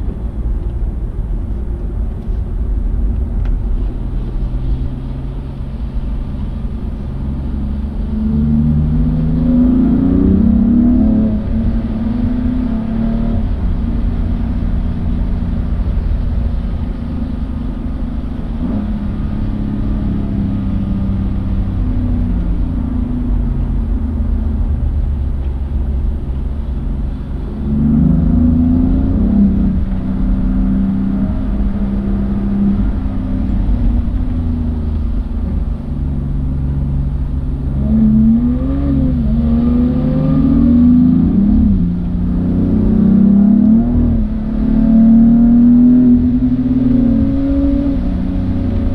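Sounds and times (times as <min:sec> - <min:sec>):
constant low drone: 0:00.0 - 0:48.9
car engine revving: 0:03.8 - 0:48.9.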